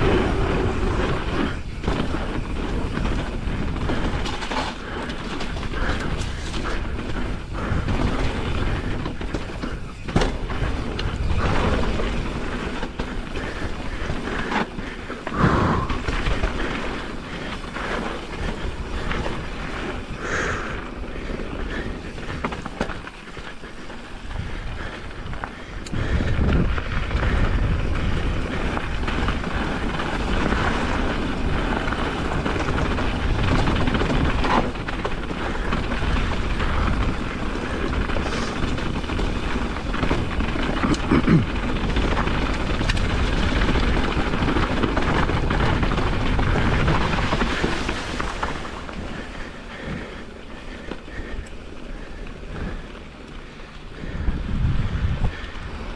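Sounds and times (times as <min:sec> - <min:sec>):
bike frame rattling: 0:00.0 - 0:55.9
bike tyres crunching on dirt: 0:00.0 - 0:55.9.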